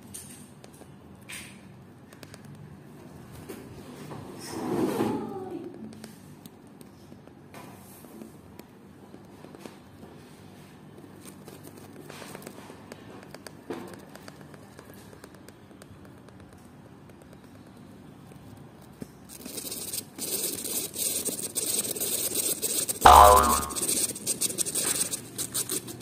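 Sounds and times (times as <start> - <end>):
hamster gnawing and scratching: 0.1 - 23.0, 23.8 - 26.0.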